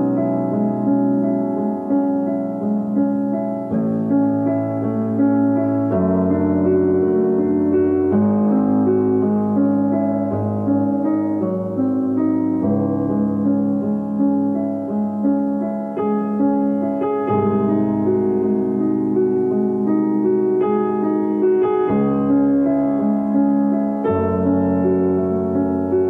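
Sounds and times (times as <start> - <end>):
slow keyboard chords: 0.0 - 26.0.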